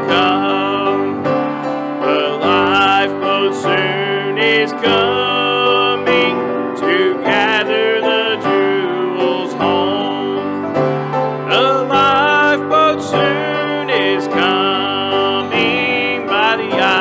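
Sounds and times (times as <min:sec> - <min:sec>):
person singing a hymn: 0:00.0 - 0:17.0
piano accompaniment: 0:00.0 - 0:17.0.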